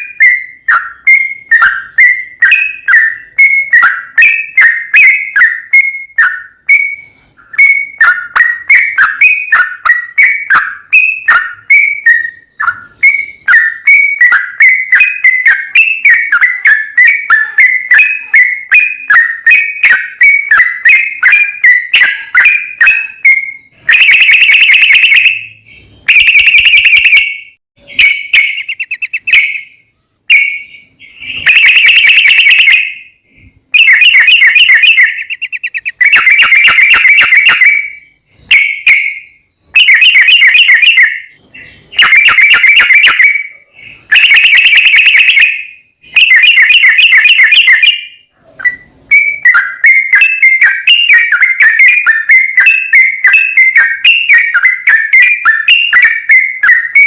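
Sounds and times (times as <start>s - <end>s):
bird whistled song: 0.0s - 57.0s
loud rapid bird trills: 0.0s - 57.0s.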